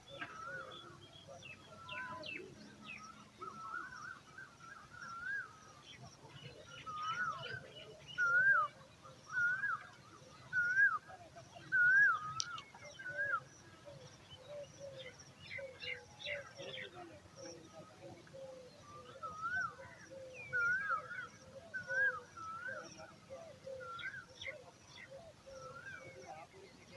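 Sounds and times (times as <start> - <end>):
birds whistling calls: 0.0 - 26.9
light bird chirps: 0.0 - 26.9.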